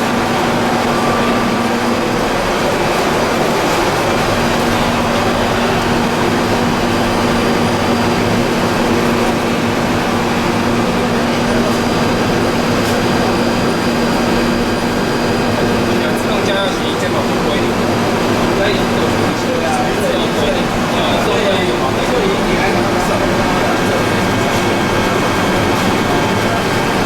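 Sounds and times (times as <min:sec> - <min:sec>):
machinery drone: 0:00.0 - 0:27.0.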